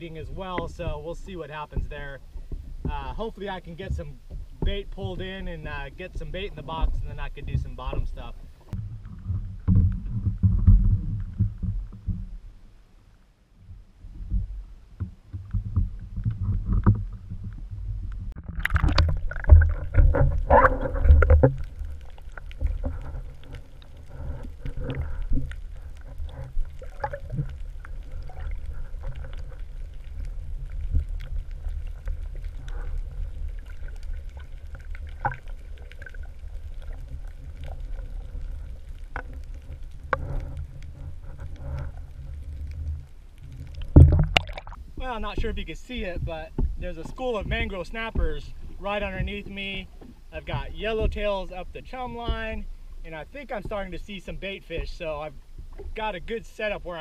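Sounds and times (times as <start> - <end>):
muffled underwater water rumble: 0.0 - 57.0.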